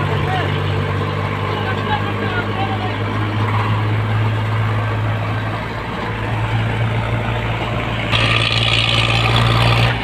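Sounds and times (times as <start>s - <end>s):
tractor diesel engines running: 0.0s - 10.0s.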